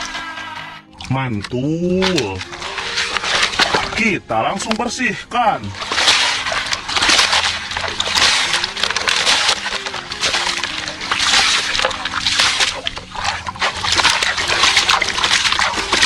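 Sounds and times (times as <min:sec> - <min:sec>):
water splashing and sloshing: 0:00.8 - 0:16.0.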